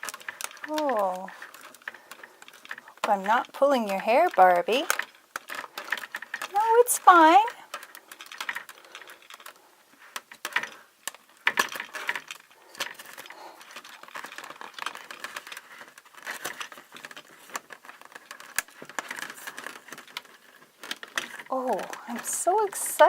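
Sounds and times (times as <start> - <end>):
plastic packaging rustling: 0.0 - 23.0.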